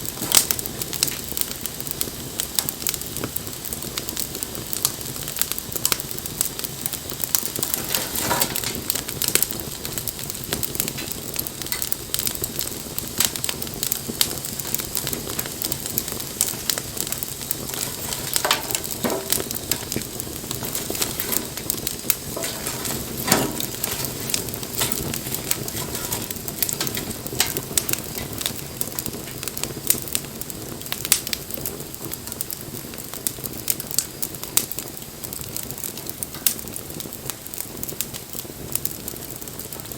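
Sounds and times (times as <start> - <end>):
fire hiss: 0.0 - 39.9
wood fire crackling and popping: 0.0 - 39.9.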